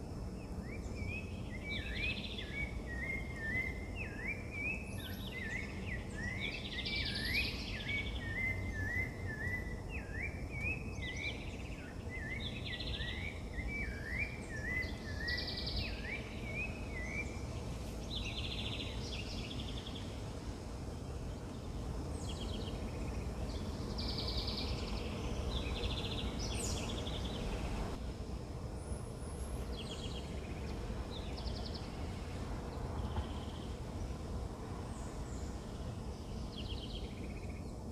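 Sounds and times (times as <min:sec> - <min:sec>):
low outdoor rumble: 0:00.0 - 0:37.9.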